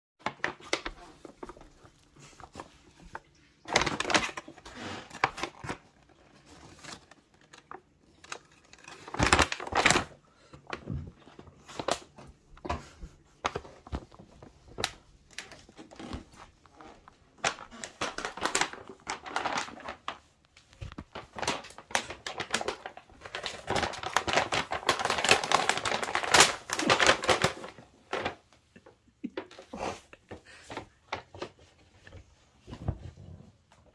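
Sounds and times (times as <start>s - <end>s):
paper bag rustling: 0.2s - 28.5s.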